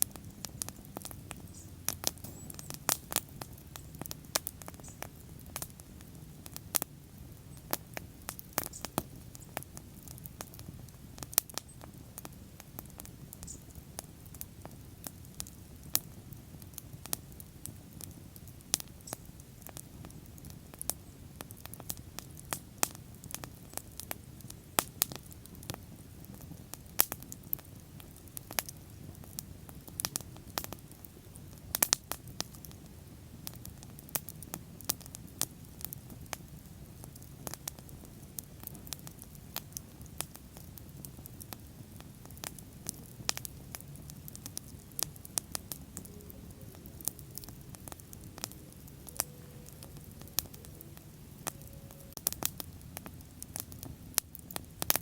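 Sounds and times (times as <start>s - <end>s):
bonfire crackling and popping: 0.0s - 55.0s
flames rumbling: 0.0s - 55.0s.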